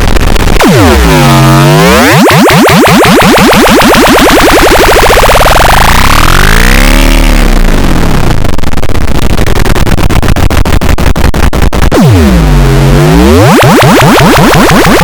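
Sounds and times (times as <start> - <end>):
fast sharp clicks: 0.0 - 12.2, 13.4 - 15.0
distorted pitch gliding up and down: 0.0 - 15.0.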